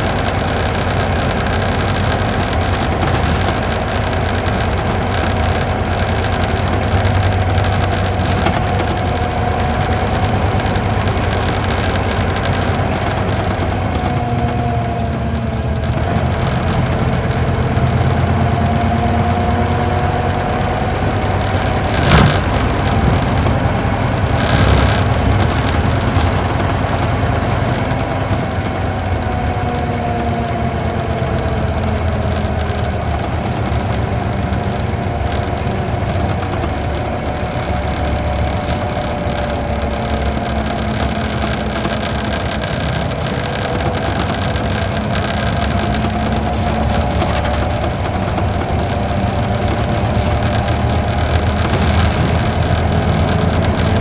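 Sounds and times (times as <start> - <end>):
diesel bus engine running: 0.0 - 54.0.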